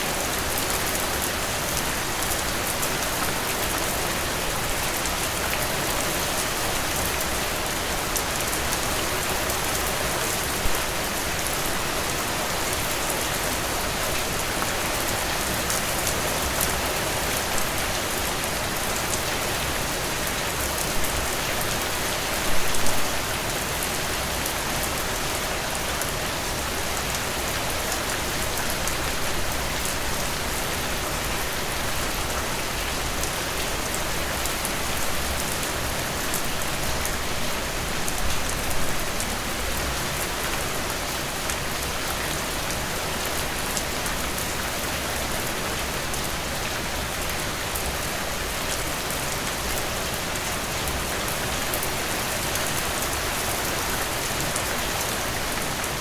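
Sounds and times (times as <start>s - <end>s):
heavy rain falling: 0.0s - 56.0s
rain splashes: 0.0s - 56.0s.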